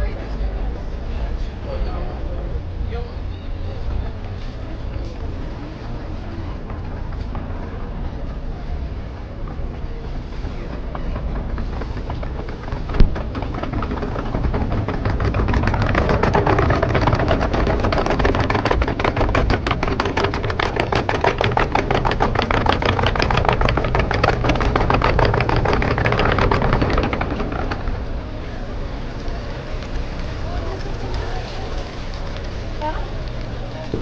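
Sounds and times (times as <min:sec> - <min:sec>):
vehicle engine running: 0:00.4 - 0:34.0.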